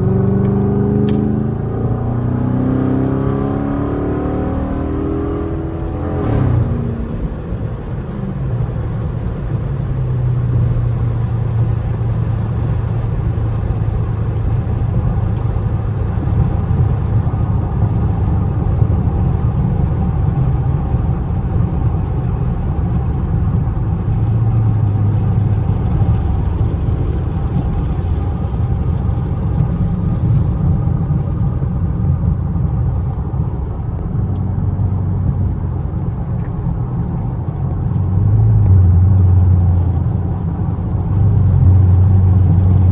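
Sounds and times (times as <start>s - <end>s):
car exhaust low drone: 0.0s - 42.9s.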